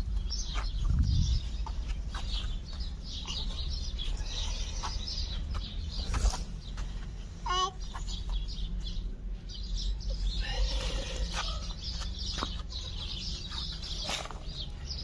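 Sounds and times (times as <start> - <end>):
birds chirping and clucking: 0.0 - 15.0
steady low rumble: 0.0 - 15.0.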